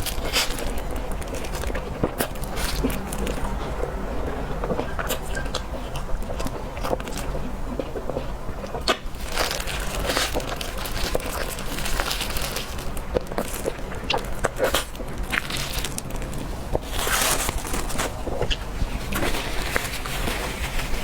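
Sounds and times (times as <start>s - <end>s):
cake being chewed: 0.0s - 21.0s
steady low hum: 0.0s - 21.0s.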